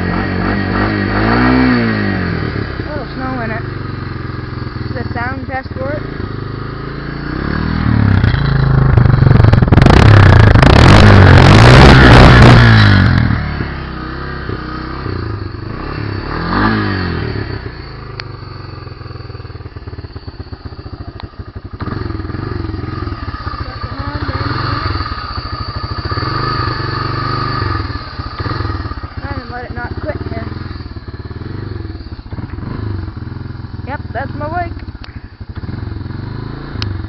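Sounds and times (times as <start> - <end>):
atv engine revving and idling: 0.0 - 37.0.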